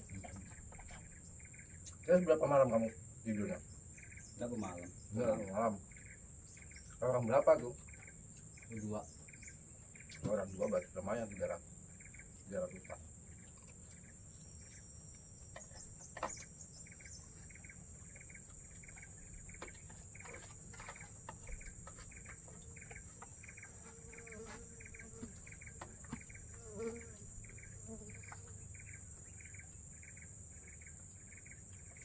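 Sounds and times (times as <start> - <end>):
repeating insect chirp: 0.0 - 32.0.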